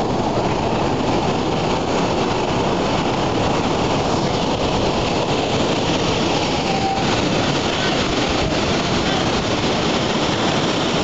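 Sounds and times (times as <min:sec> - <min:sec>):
fireworks fountain rushing: 0:00.0 - 0:11.0.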